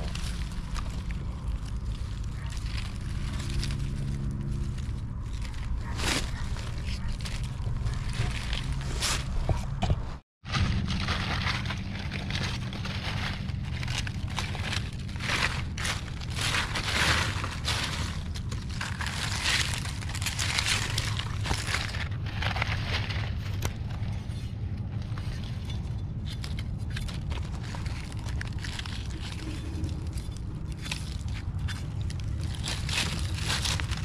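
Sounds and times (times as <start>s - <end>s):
dry leaves crackling and rustling: 0.0s - 9.5s, 10.4s - 34.0s
steady low rumble: 0.0s - 34.0s.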